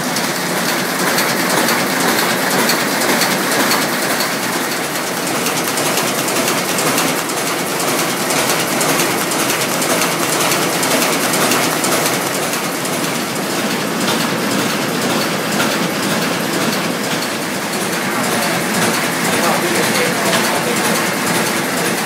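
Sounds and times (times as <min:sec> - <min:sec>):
envelope inserting machine clattering: 0:00.0 - 0:22.0.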